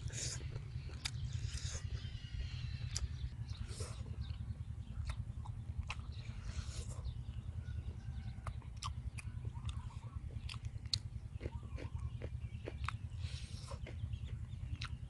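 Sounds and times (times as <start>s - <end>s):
chewing crispy chicken: 0.0s - 15.0s
low rumble: 0.0s - 15.0s.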